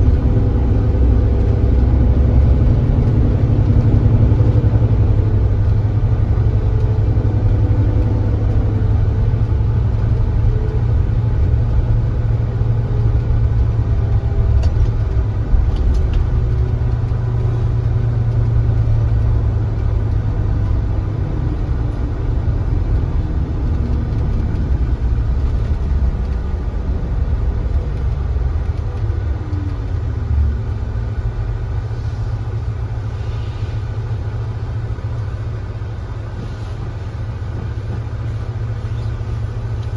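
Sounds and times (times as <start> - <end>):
coach diesel engine rumbling: 0.0 - 39.9.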